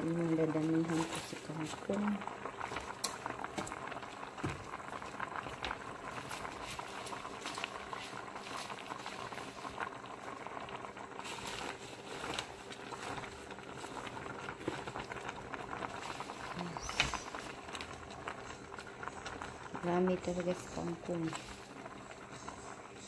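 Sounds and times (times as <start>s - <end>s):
soup boiling and bubbling: 0.0s - 23.0s.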